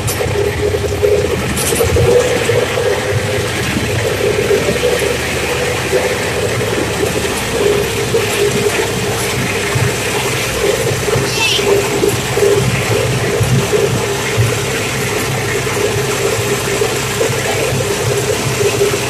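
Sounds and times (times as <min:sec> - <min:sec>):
diesel engine running: 0:00.0 - 0:19.0
steady whine: 0:00.0 - 0:19.0.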